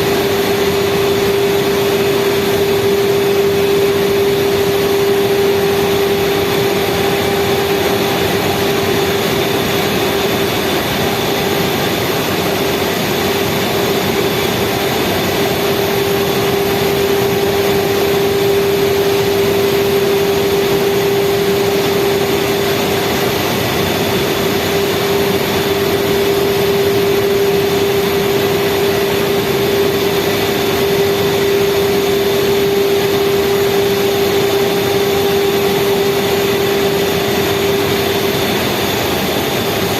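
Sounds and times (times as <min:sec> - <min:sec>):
speedboat engine drone: 0:00.0 - 0:39.9.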